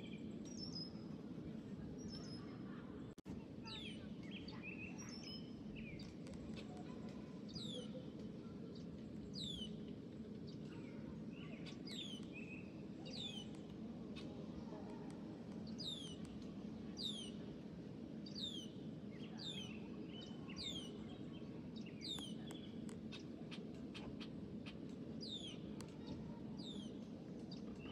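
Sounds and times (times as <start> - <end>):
low background rush: 0.0 - 27.9.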